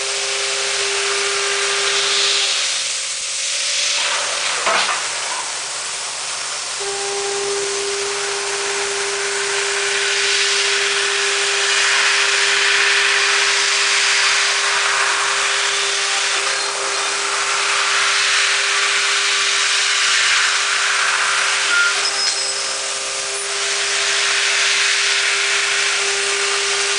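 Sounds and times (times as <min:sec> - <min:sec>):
loud even hiss: 0:00.0 - 0:26.9
milling machine spindle whine: 0:00.0 - 0:26.9.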